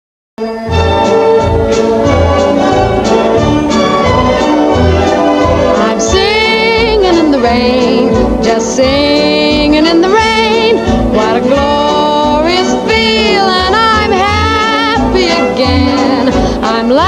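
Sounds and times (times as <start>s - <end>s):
orchestral accompaniment: 0.4s - 16.8s.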